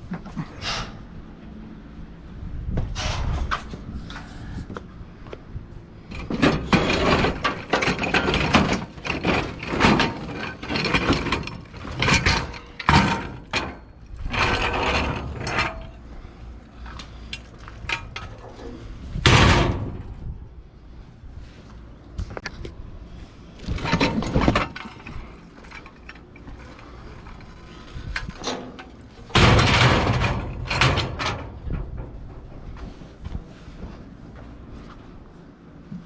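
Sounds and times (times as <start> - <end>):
junk clattering and scraping: 6.0 - 36.0.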